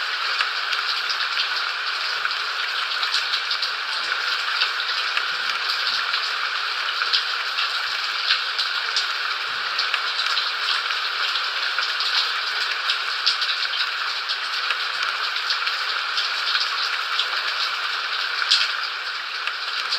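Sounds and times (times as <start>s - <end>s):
steady rain: 0.0s - 19.9s.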